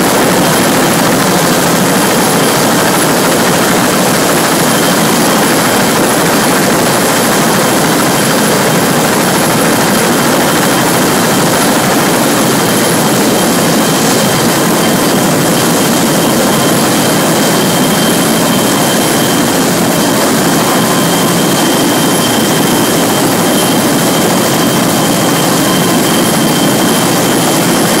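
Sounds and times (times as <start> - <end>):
helicopter turbine and rotor noise: 0.0 - 28.0
steady high whine: 0.0 - 28.0.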